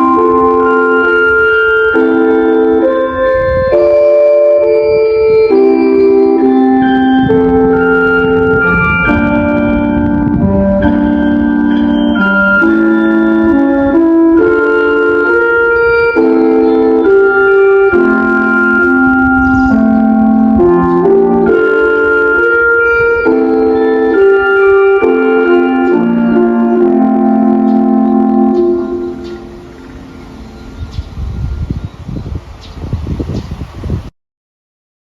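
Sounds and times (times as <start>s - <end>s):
electronic chime melody: 0.0s - 31.4s.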